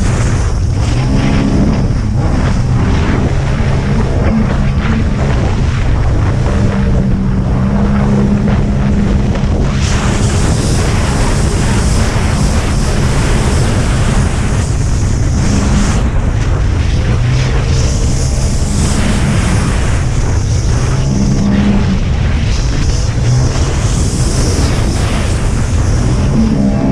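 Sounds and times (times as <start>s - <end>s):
jet ski engine running: 0.0s - 26.9s
rushing water: 0.0s - 26.9s
wind buffeting microphone: 0.0s - 26.9s.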